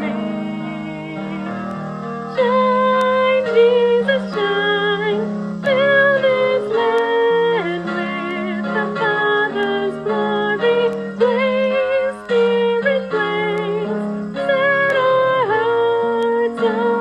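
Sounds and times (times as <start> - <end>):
instrumental accompaniment: 0.0 - 17.0
woman singing into microphone: 0.0 - 17.0.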